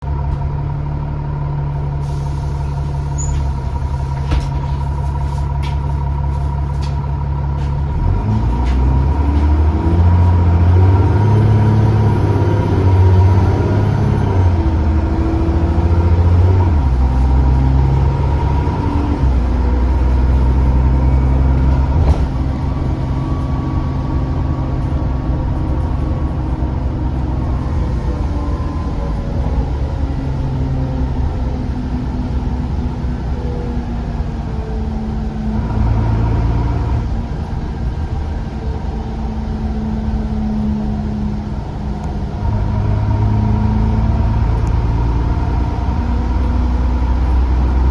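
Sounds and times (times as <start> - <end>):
bus engine pulling hard: 0.0 - 47.9.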